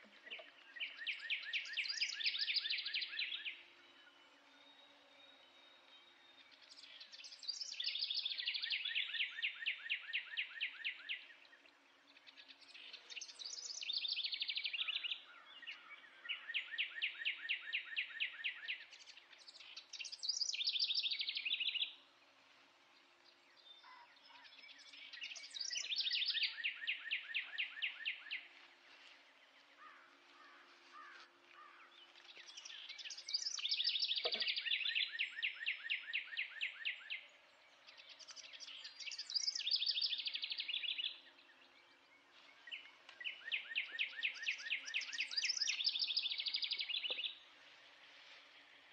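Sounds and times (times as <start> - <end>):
songbird singing trills: 0.0 - 22.2, 23.0 - 48.9.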